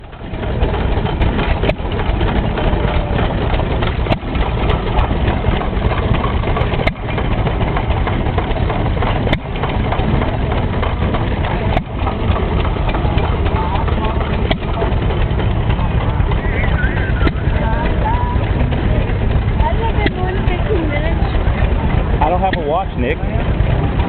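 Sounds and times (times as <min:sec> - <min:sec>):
engine sharp crack: 0:00.0 - 0:24.0
stationary engine chugging: 0:00.0 - 0:24.0.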